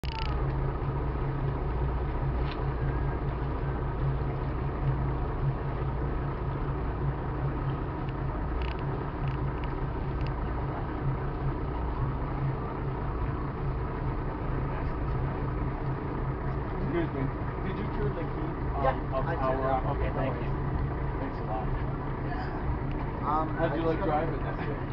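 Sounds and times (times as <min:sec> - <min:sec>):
boat engine humming: 0:00.0 - 0:24.9.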